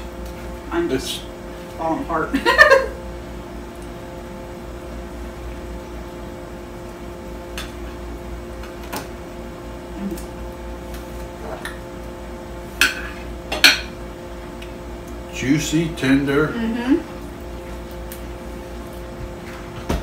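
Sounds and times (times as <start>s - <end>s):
room hum: 0.0s - 20.0s.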